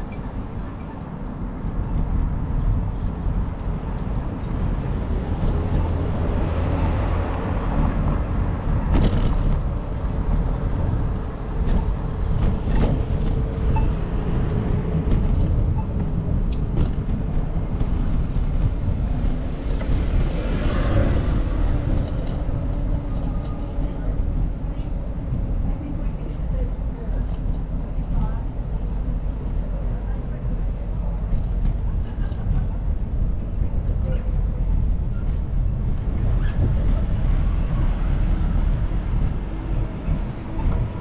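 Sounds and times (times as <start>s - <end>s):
passing vehicle: 0.0s - 41.0s
traffic rumble: 0.0s - 41.0s.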